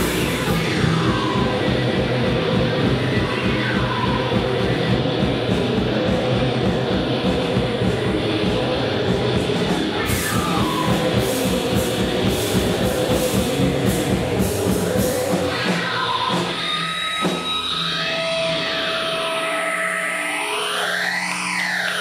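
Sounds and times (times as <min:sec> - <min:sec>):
drums: 0:00.0 - 0:22.0
electric guitar: 0:00.0 - 0:22.0
keyboards: 0:00.0 - 0:22.0.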